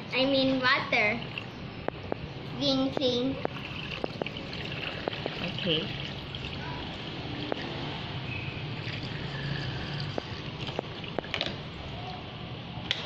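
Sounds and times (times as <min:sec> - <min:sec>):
water trickling and dripping: 0:01.0 - 0:12.2.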